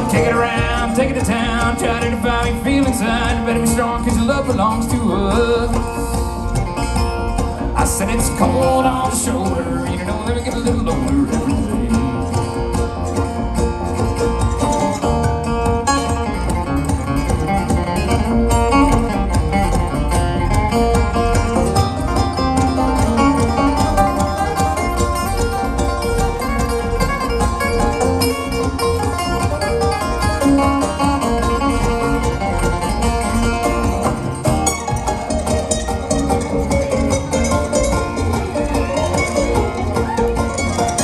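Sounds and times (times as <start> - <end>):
acoustic guitar: 0.0 - 41.0
banjo: 0.0 - 41.0
mandolin: 0.0 - 41.0.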